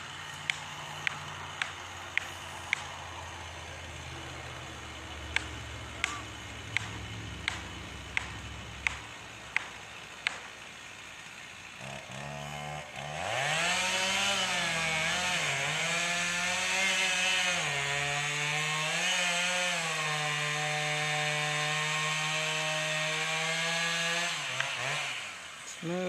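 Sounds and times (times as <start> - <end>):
chainsaw cutting tree trunk: 0.0 - 26.0.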